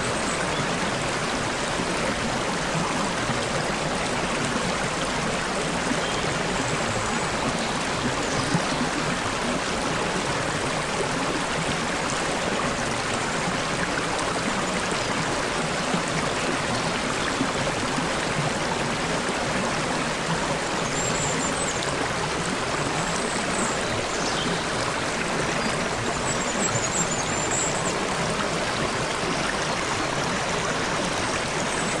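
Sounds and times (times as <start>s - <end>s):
stream babbling over stones: 0.0s - 32.0s.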